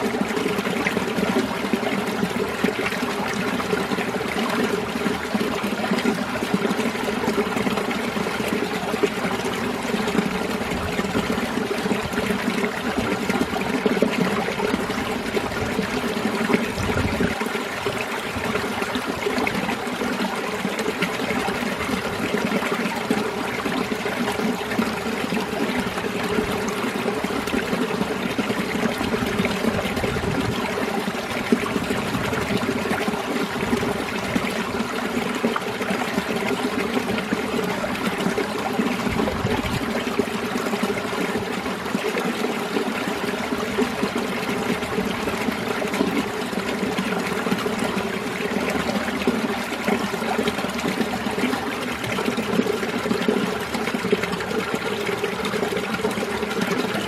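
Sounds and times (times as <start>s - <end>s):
stream water flowing over rocks: 0.0s - 57.0s.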